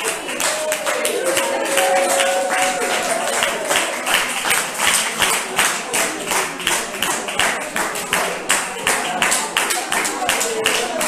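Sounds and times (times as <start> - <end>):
hands clapping in rhythm: 0.0 - 11.0.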